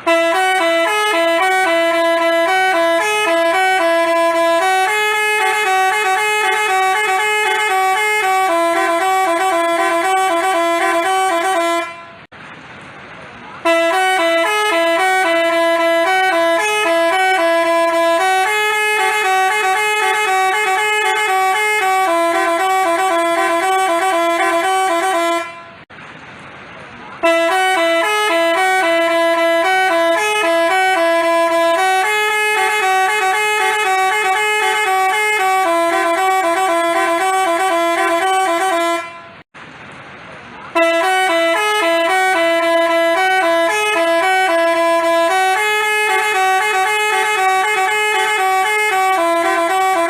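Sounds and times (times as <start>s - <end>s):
multi-tone bus horn tune: 0.0s - 12.3s, 13.6s - 25.9s, 27.2s - 39.5s, 40.7s - 50.0s.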